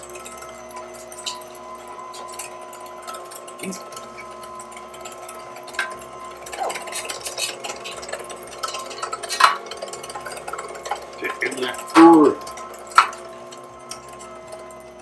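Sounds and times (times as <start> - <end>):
clicks and crackles of meat grinding: 0.0 - 15.0
juicer motor humming: 0.0 - 15.0.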